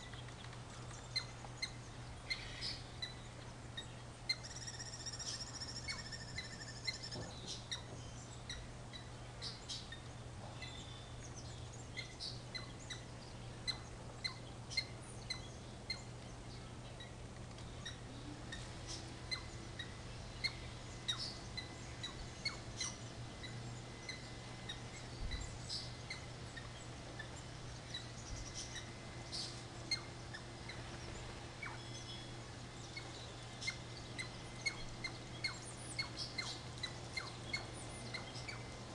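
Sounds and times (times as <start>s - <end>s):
small birds chirping: 0.0s - 38.9s
steady low hum: 0.0s - 38.9s.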